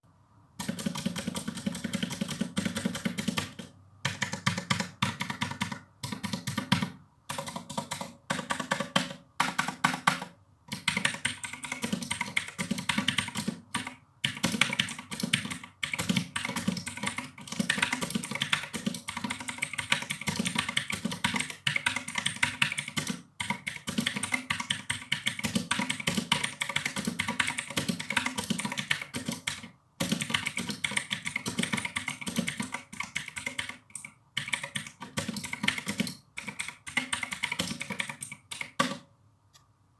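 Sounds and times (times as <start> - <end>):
mechanical keyboard typing: 0.6 - 39.1.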